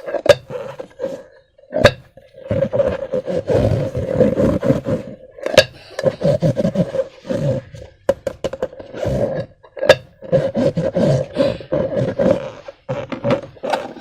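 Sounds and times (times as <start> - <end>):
rubber balloons rubbing: 0.0 - 14.0.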